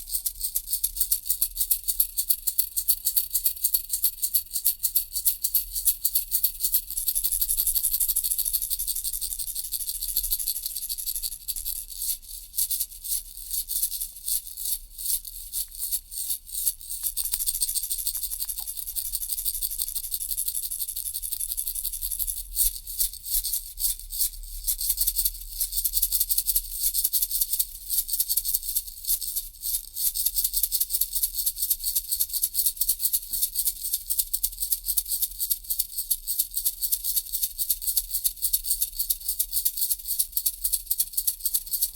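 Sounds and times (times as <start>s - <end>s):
toy rattle shaken: 0.0s - 41.9s.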